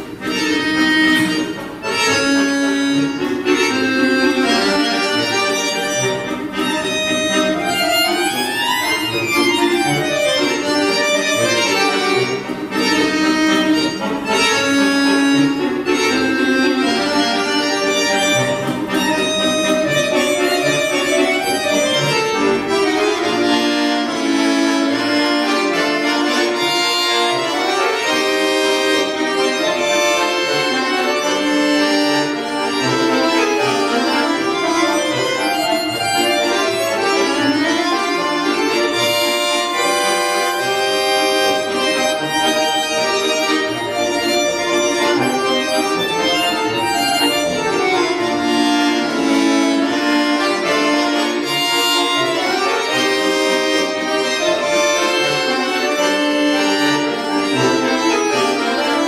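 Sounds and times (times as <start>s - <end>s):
accordion playing a waltz: 0.0s - 59.0s.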